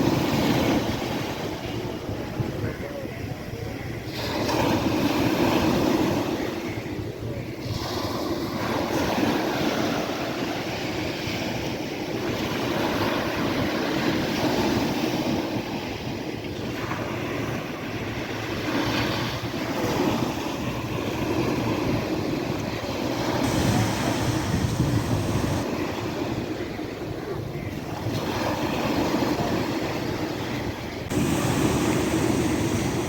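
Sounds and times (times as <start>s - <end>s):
sea waves breaking: 0.0s - 33.0s.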